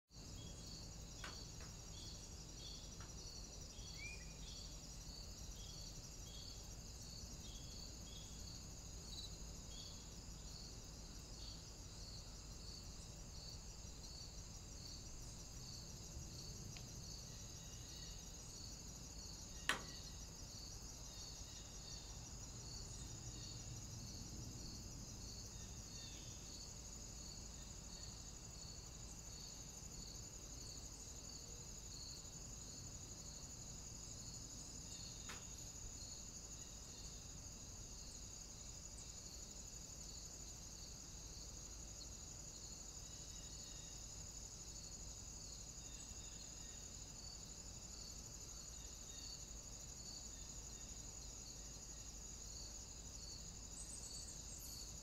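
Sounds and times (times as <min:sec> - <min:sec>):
insect chirping trill: 0:00.1 - 0:55.0.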